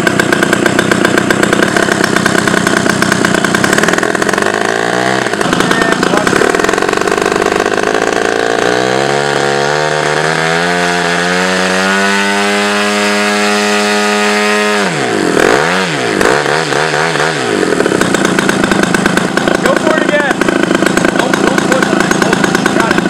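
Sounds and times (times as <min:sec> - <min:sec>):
aircraft engine running up: 0:00.0 - 0:23.0.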